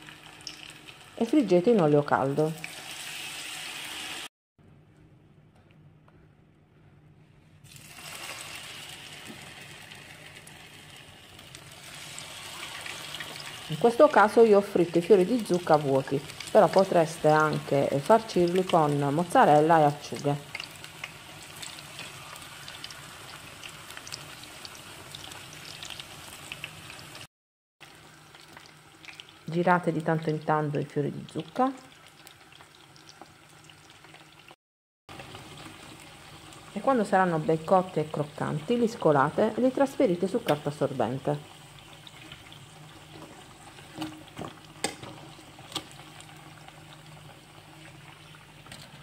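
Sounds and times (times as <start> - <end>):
deep-frying sizzle with pops: 0.0 - 4.3, 7.7 - 49.0.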